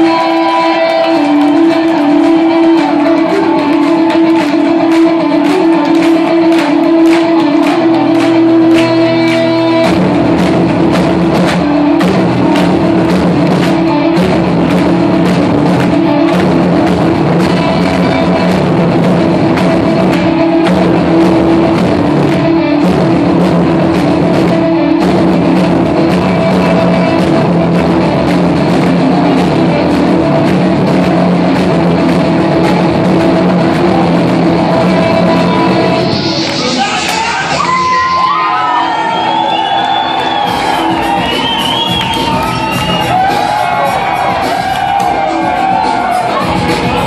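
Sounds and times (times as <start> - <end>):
steady drum beat: 0.0 - 37.6, 39.0 - 47.0
electric guitars holding chords: 0.0 - 47.0
punk band playing live: 0.0 - 47.0.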